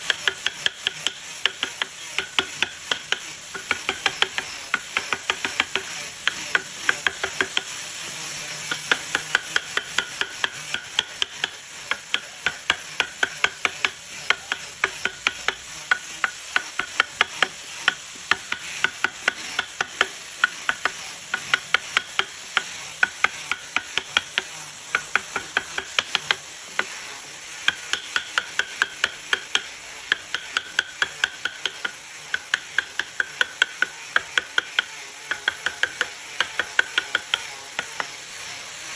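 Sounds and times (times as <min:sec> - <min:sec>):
mallet tapping chisel into wood: 0:00.0 - 0:07.7, 0:08.7 - 0:26.9, 0:27.7 - 0:38.1.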